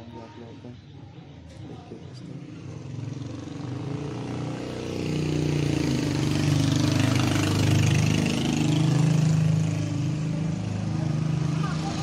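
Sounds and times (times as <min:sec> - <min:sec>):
vehicle engine running: 0:01.4 - 0:12.0.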